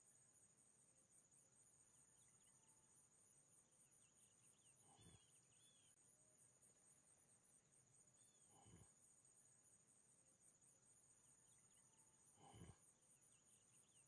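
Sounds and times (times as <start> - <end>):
faint high chirps: 0.0 - 14.0.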